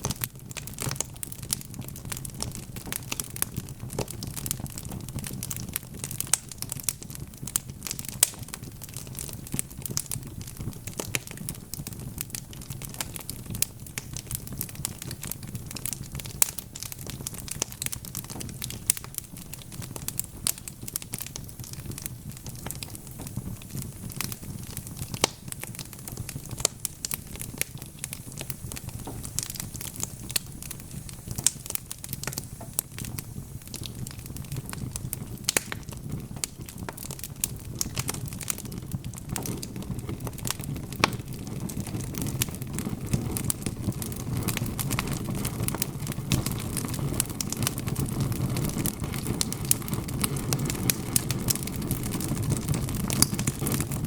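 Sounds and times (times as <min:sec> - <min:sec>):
fire pops: 0:00.0 - 0:54.0
wood fire crackling: 0:00.0 - 0:54.0.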